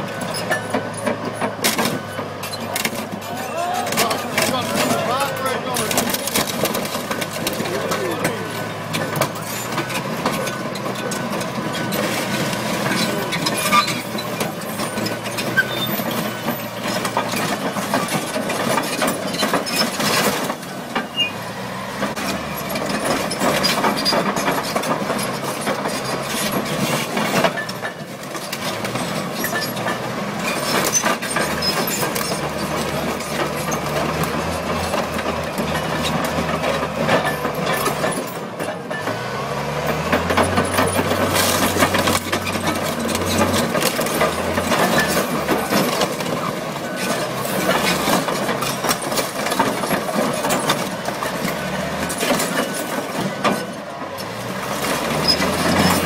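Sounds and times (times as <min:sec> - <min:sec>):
car body crunching and creaking: 0:00.0 - 0:39.1, 0:39.8 - 0:56.0
bulldozer diesel engine: 0:00.0 - 0:56.0.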